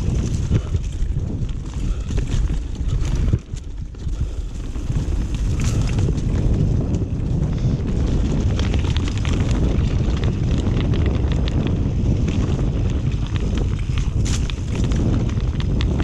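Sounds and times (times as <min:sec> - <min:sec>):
bike rattling and clicking: 0:00.0 - 0:16.0
bike tyre noise: 0:00.0 - 0:16.0
wind buffeting microphone: 0:00.0 - 0:16.0.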